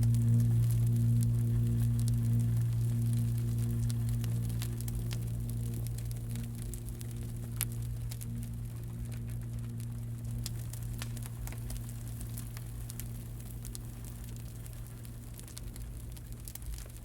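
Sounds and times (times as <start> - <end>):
campfire crackling and popping: 0.0 - 17.0
low hum: 0.0 - 17.0.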